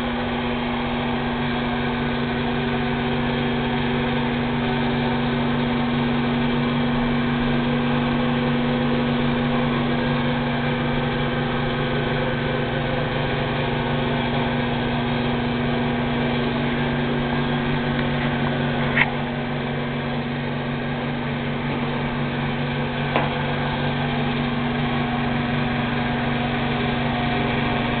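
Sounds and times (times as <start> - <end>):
machine hum with hiss: 0.0 - 28.0.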